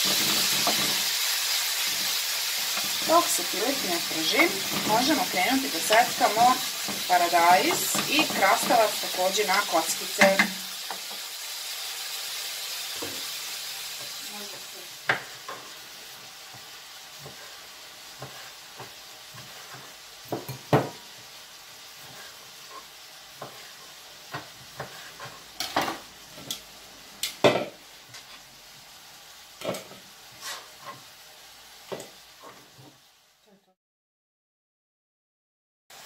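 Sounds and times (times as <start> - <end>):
chicken sizzling in a pan: 0.0 - 33.8.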